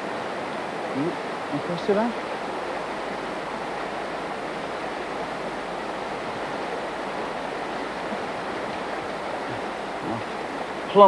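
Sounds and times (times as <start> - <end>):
river rushing past rocks: 0.0 - 11.0.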